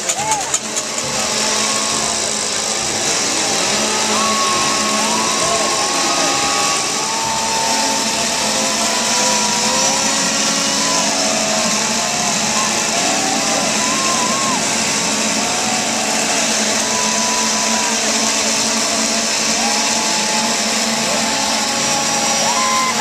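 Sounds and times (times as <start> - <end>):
crowd yelling and cheering: 0.0 - 23.0
screams and whoops: 0.0 - 23.0.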